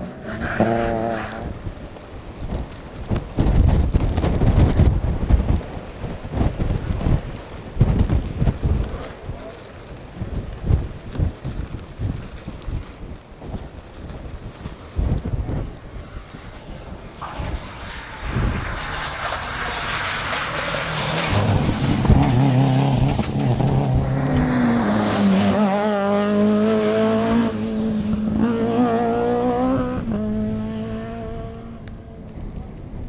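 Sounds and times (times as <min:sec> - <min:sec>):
rally car engine at full throttle: 0:00.0 - 0:12.2, 0:14.5 - 0:33.0.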